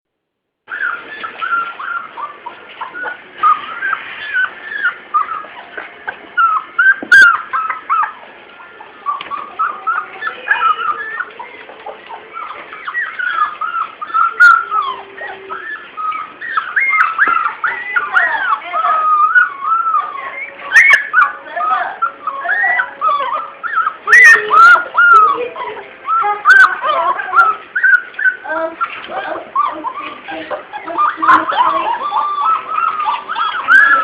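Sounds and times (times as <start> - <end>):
puppy whining and yelping: 0.7 - 34.0.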